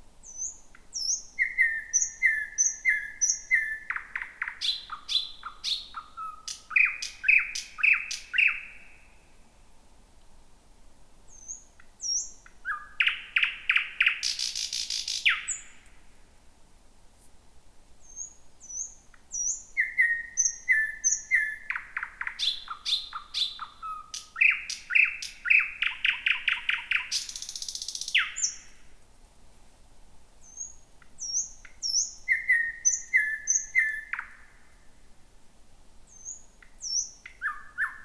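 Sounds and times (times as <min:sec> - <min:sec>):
thrush nightingale singing: 0:00.2 - 0:09.4, 0:11.3 - 0:15.9, 0:18.0 - 0:28.9, 0:30.4 - 0:34.8, 0:36.1 - 0:38.0.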